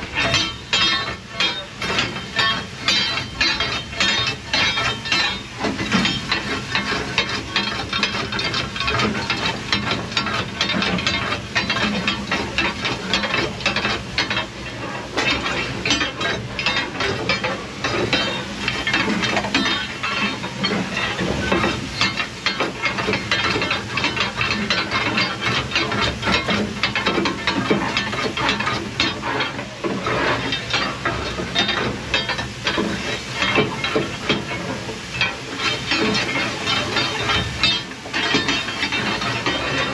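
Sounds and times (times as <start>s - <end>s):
fire iron scraping coal: 0.0s - 39.9s
steam hissing: 0.0s - 39.9s.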